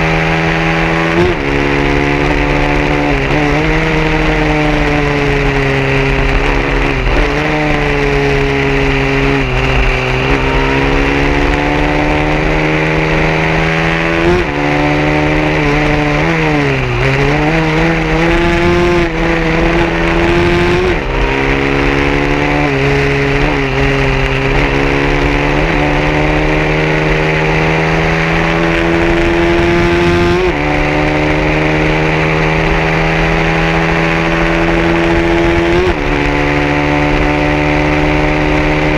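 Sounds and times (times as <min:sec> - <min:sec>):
racing motorcycle engine revving: 0:00.0 - 0:38.9.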